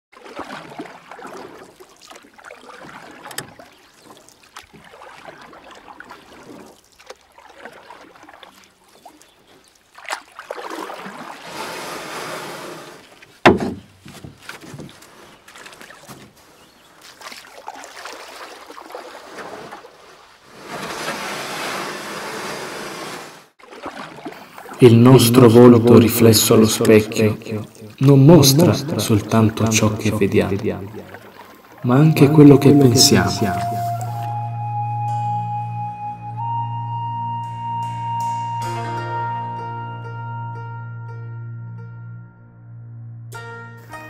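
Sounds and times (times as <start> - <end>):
water lapping against quay wall: 0.1 - 35.6.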